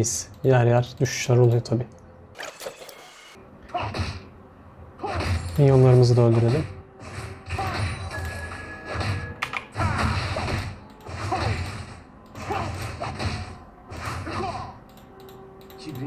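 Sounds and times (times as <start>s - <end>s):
video game background music: 0.0s - 16.0s.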